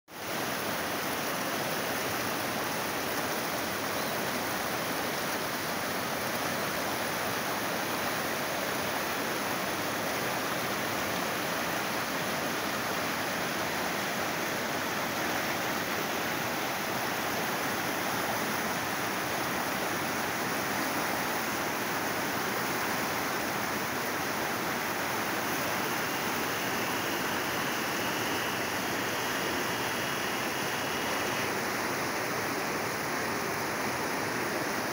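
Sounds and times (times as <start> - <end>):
river rushing over rocks: 0.1 - 34.9.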